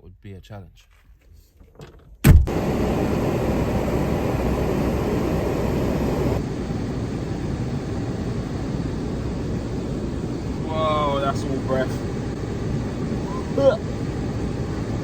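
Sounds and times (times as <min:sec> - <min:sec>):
car engine starting and running: 0:02.3 - 0:15.0.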